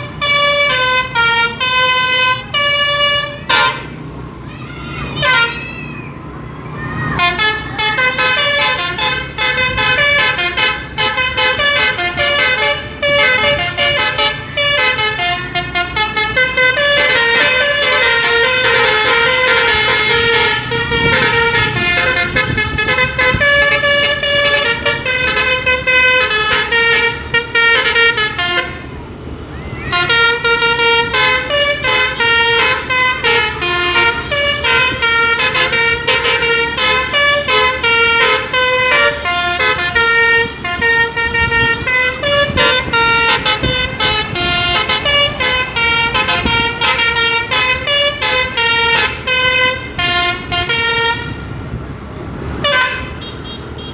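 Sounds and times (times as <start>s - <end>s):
bus horn playing a tune: 0.0s - 4.2s, 5.0s - 5.9s, 7.1s - 51.8s, 52.5s - 53.9s.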